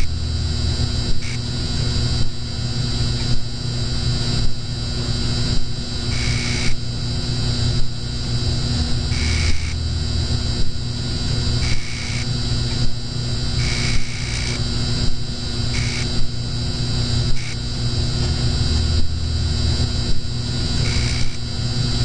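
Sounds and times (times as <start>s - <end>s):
electrical hum: 0.0s - 22.0s
neon sign buzzing: 0.0s - 22.0s.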